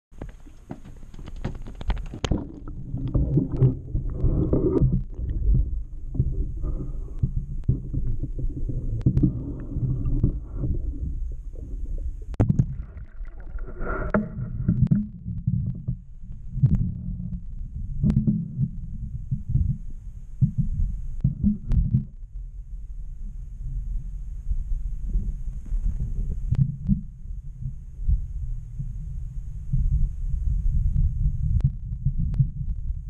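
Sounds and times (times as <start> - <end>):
muffled underwater rumble: 0.2 - 33.0.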